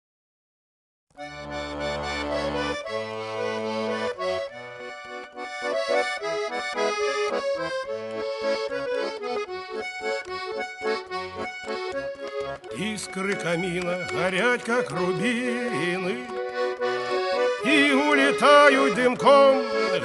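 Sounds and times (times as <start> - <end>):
accordion playing: 1.2 - 20.0.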